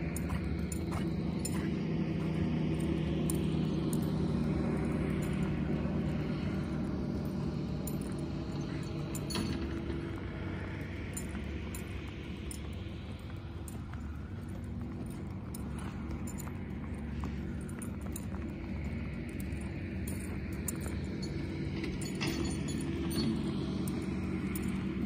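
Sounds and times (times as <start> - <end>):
engine hum: 0.0 - 25.0
hoofbeats on soft dirt: 0.0 - 25.0.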